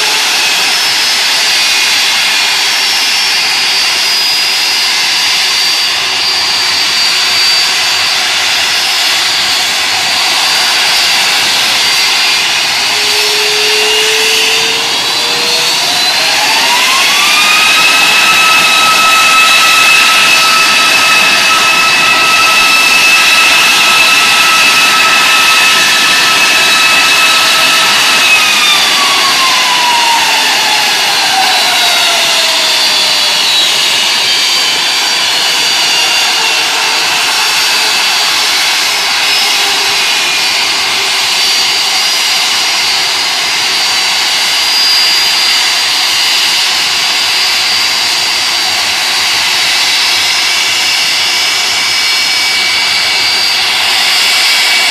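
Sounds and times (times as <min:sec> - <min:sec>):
jet engine roaring with high whine: 0:00.0 - 0:54.9.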